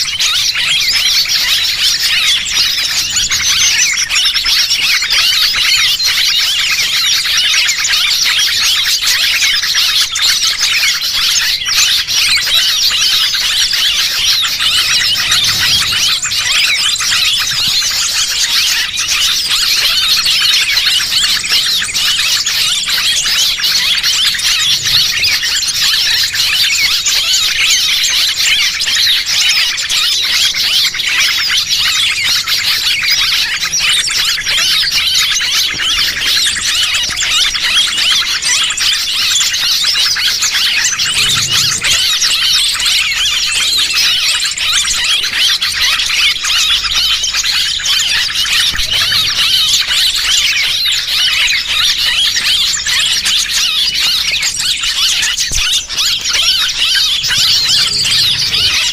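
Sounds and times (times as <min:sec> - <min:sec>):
small birds chirping and twittering: 0:00.0 - 0:58.9.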